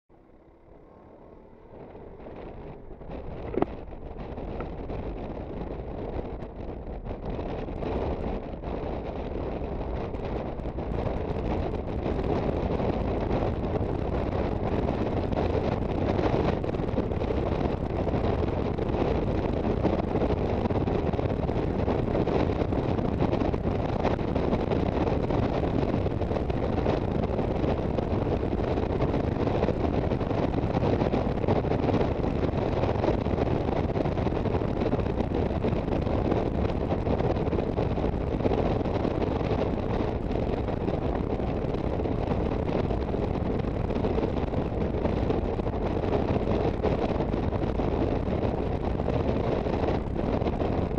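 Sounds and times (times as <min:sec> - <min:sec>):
road noise: 0:00.1 - 0:50.9
scooter engine running: 0:00.1 - 0:50.9
wind rush on microphone: 0:00.1 - 0:50.9.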